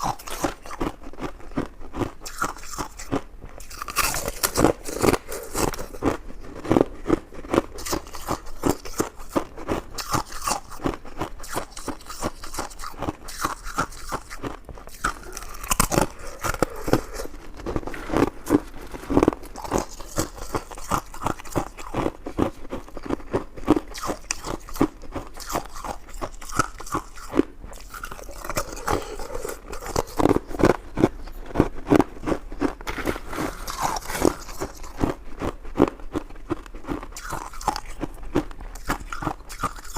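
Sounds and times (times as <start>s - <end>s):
person chewing crisp food: 0.0s - 39.9s.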